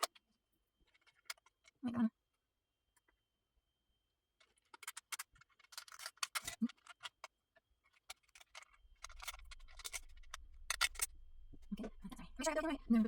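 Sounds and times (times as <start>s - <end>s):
plastic parts clicking and rattling: 0.0s - 1.8s, 4.4s - 13.0s.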